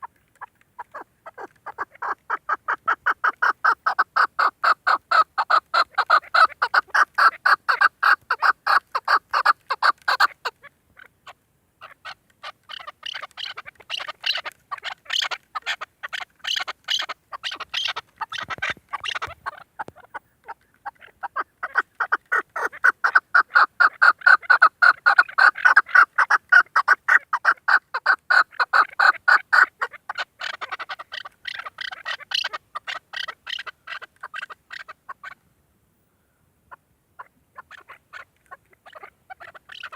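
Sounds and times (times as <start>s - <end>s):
partridge rapid clucking calls: 0.0s - 35.4s, 36.7s - 39.9s.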